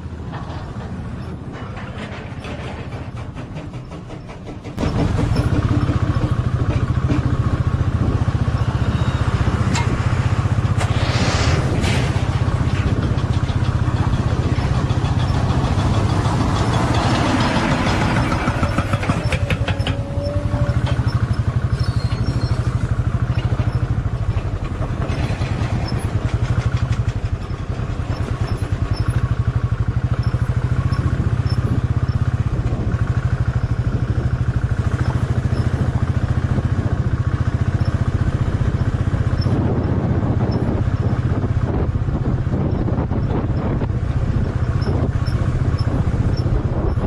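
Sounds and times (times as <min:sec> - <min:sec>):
motorcycle engine running: 0:04.8 - 0:10.8, 0:11.8 - 0:47.0.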